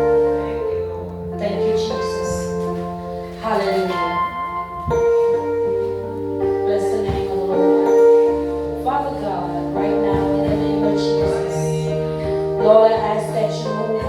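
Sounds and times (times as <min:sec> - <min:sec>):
church keyboard chords: 0:00.0 - 0:14.0.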